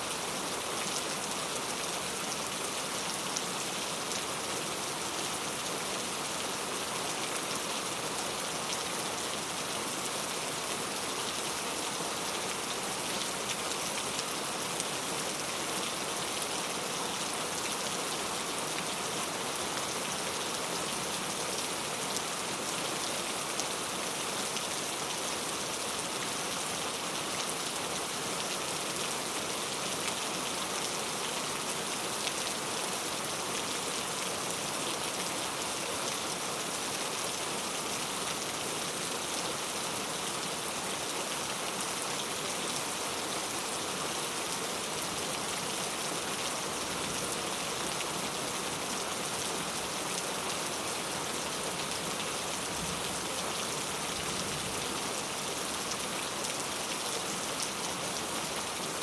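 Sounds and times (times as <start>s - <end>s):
heavy rain on hard surfaces: 0.0s - 59.0s.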